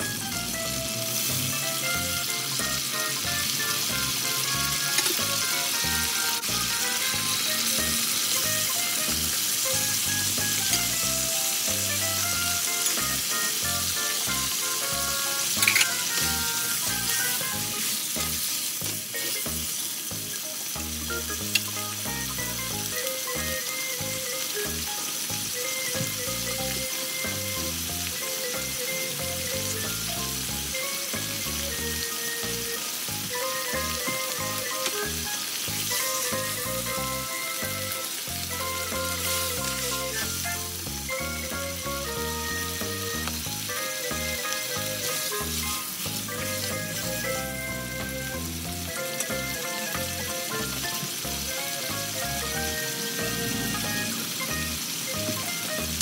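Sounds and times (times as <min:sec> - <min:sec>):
background music: 0:00.0 - 0:56.0
food sizzling in a wok: 0:00.0 - 0:56.0.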